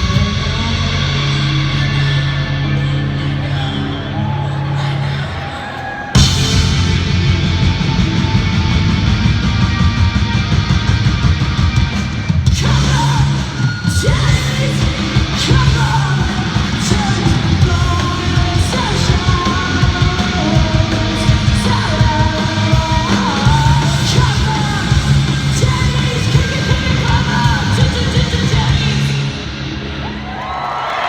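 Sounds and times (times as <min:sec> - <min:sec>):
live punk rock band: 0:00.0 - 0:04.7, 0:05.6 - 0:31.0
yelled lead vocal: 0:00.0 - 0:09.3, 0:12.4 - 0:30.6.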